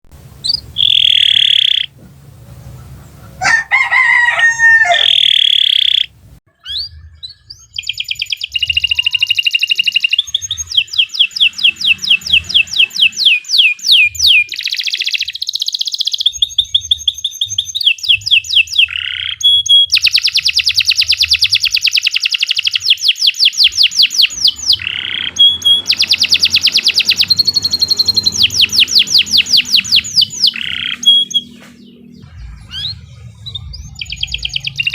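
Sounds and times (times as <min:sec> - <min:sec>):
canary singing trills: 0:00.4 - 0:34.9.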